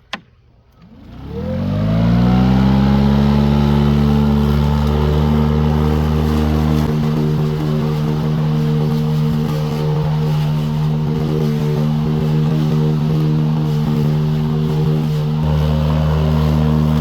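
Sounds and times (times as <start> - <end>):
electric mower motor humming: 0.7 - 17.0.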